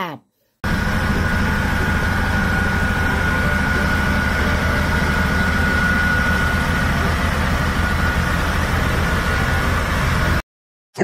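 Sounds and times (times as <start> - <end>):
roller diesel engine running: 0.6 - 10.4
thin high whine: 0.6 - 10.4.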